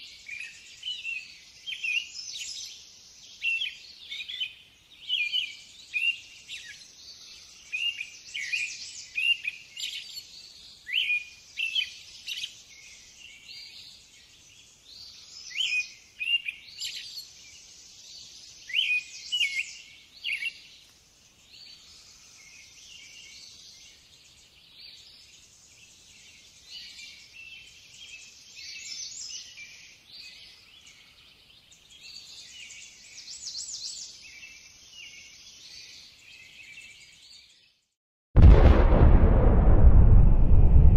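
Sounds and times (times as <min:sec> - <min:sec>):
small birds chirping: 0:00.0 - 0:37.8.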